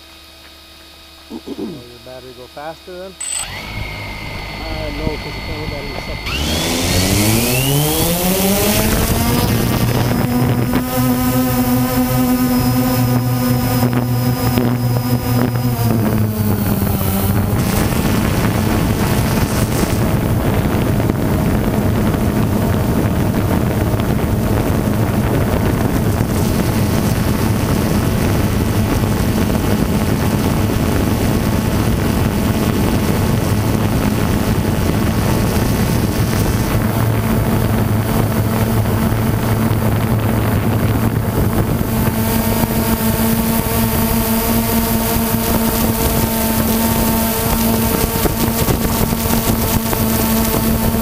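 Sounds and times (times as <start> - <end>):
high humming tones: 0.0 - 51.0
drone propellers buzzing: 1.2 - 51.0
wind on microphone: 3.4 - 51.0.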